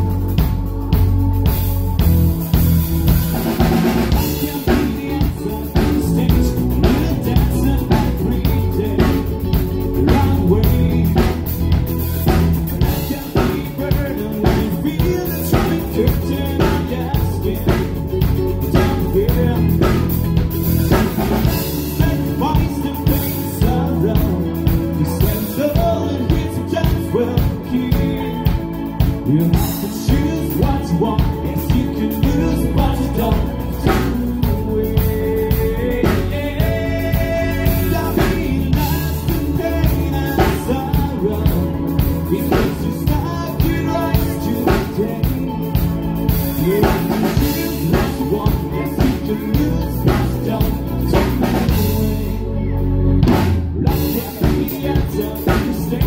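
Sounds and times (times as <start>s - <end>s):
rock band playing: 0.0s - 56.0s
man singing into a microphone: 3.5s - 52.8s, 53.8s - 56.0s.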